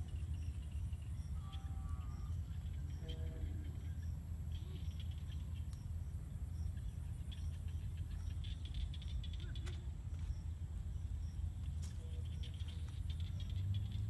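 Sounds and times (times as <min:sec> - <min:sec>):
fire crackling: 0:00.0 - 0:13.5
low wind rumble: 0:00.0 - 0:14.0.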